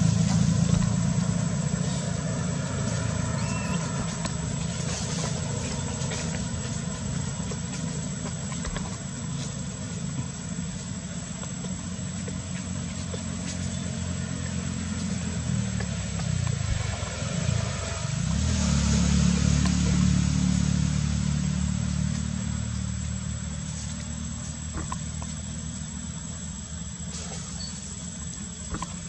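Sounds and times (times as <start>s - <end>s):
vehicle engine humming: 0.0s - 29.0s.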